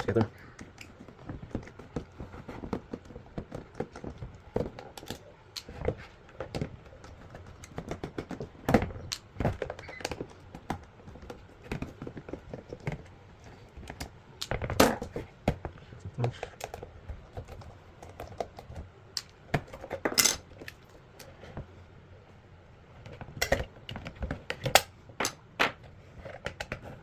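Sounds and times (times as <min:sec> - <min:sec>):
clicks and knocks of handling parts: 0:00.0 - 0:21.7.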